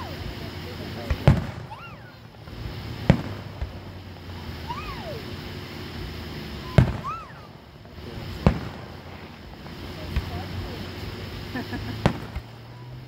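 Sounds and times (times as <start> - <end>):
distant fireworks bangs: 0.0 - 13.0.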